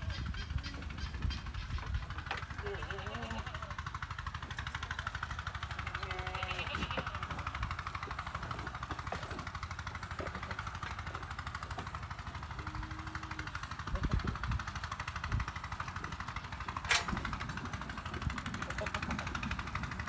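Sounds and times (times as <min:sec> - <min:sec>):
machine running with rumble: 0:00.0 - 0:20.0.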